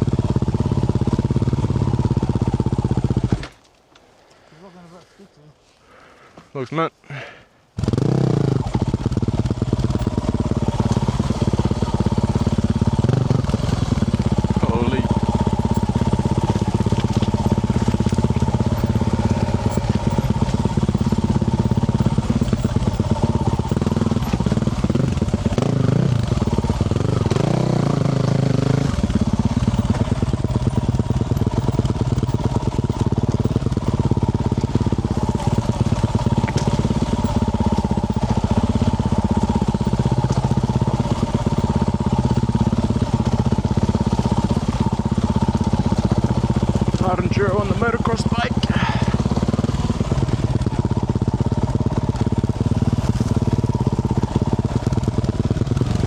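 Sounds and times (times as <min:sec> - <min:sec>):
motorcycle engine running: 0:00.0 - 0:03.7, 0:07.8 - 0:56.0.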